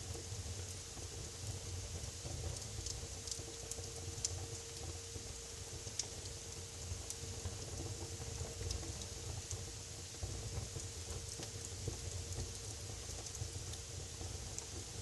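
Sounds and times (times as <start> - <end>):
fire low rumble and hiss: 0.0 - 15.0
wood fire crackling and popping: 0.0 - 15.0.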